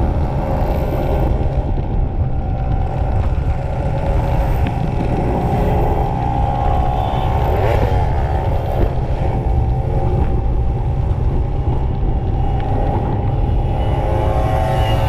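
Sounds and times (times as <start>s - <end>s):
wind noise rumble: 0.0s - 15.0s.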